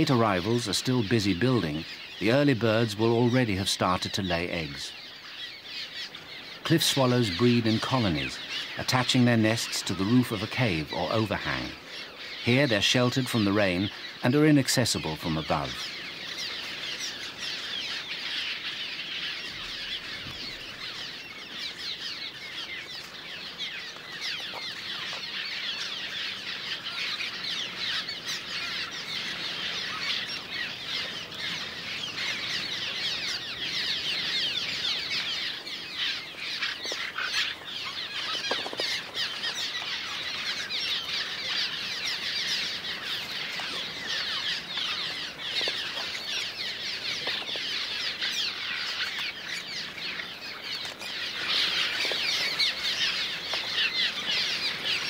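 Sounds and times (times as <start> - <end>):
swallows chattering: 0.0 - 55.0.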